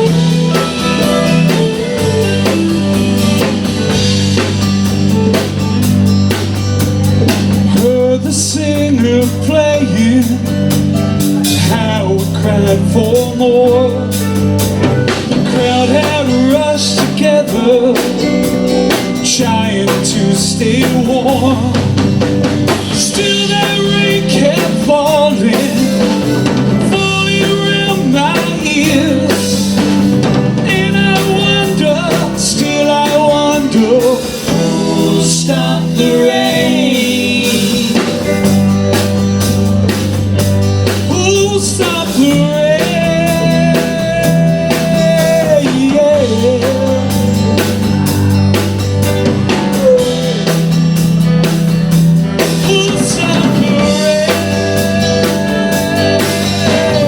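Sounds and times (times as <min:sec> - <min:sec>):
bass guitar notes: 0:00.0 - 0:57.0
drum kit: 0:00.0 - 0:57.0
guitar: 0:00.0 - 0:57.0
wavering lead melody: 0:00.0 - 0:57.0.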